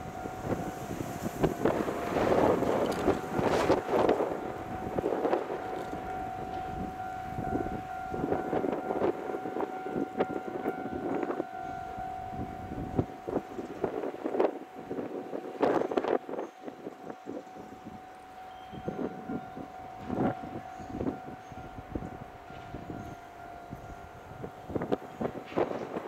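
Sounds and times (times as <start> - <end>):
wind gusting on microphone: 0.0 - 26.0.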